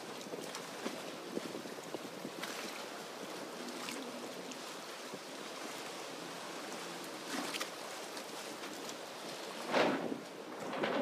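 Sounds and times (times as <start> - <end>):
harbour water washing: 0.0 - 11.0
wind: 0.0 - 11.0.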